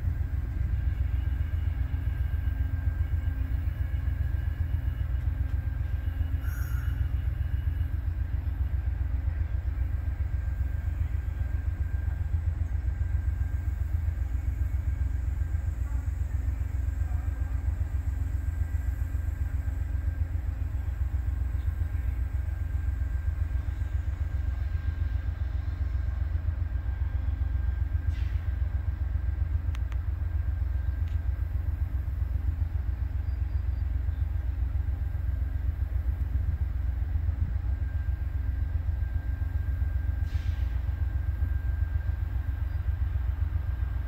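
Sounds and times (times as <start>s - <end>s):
faint high whine: 0.0s - 44.0s
train wheels rumbling on rail: 0.0s - 44.0s.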